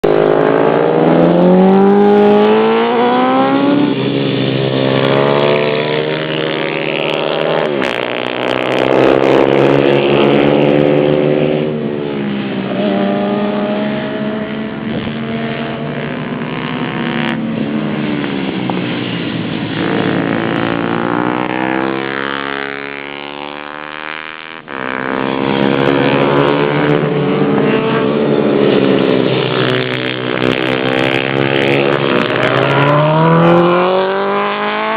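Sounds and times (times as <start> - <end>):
pit bike engines revving: 0.1 - 34.9.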